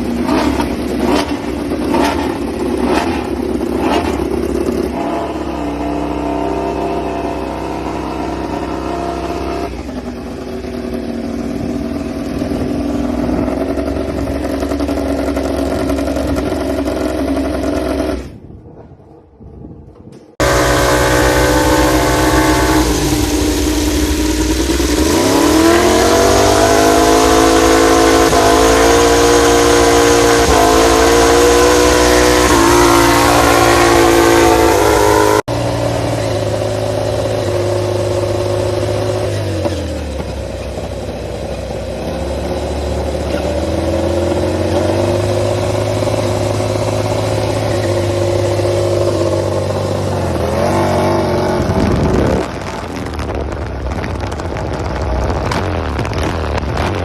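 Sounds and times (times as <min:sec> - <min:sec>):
racing motorcycle engines revving: 0:00.0 - 0:18.4, 0:20.4 - 0:57.0.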